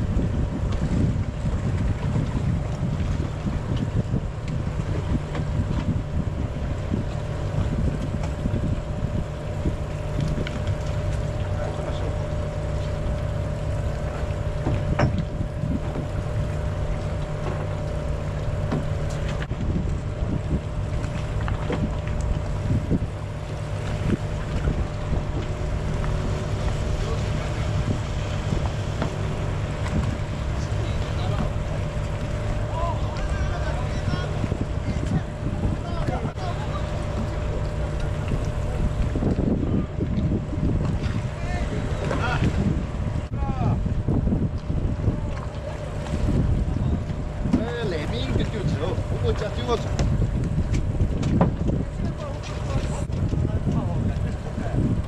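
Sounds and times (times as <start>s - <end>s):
boat engine idling: 0.0s - 55.0s
wind buffeting microphone: 0.0s - 55.0s.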